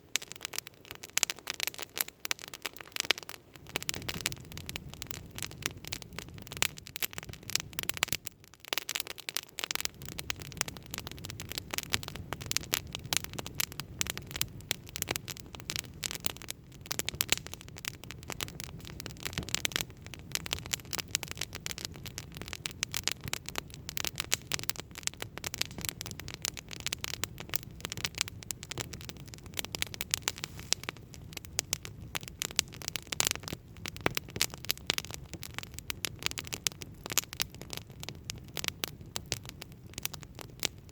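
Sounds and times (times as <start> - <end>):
campfire crackling and popping: 0.0 - 40.9
low rumble of burning wood: 0.0 - 40.9.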